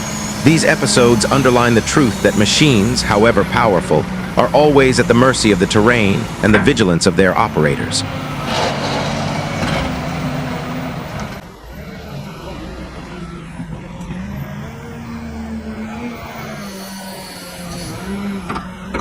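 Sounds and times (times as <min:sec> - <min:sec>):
heavy machine engine under load: 0:00.0 - 0:16.6.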